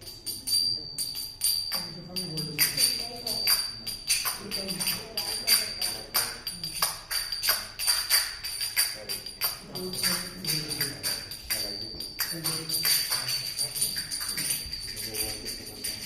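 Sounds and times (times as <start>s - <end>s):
hand cymbals clashing: 0.0s - 16.0s.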